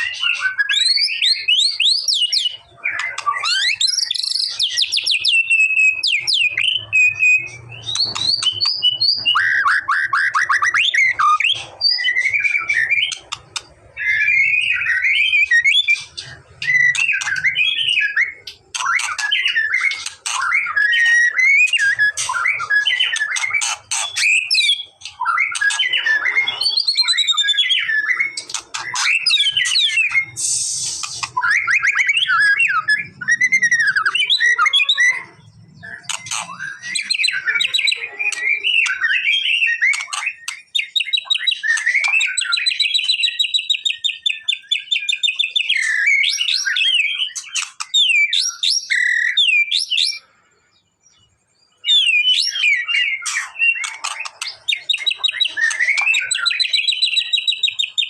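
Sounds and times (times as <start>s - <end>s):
songbird singing whistles and trills: 0.0s - 58.0s.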